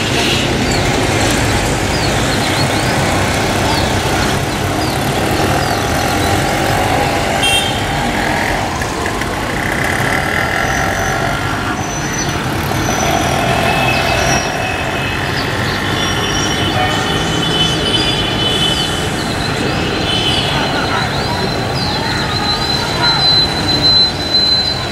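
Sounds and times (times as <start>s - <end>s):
road traffic with passing vehicles: 0.0s - 24.9s.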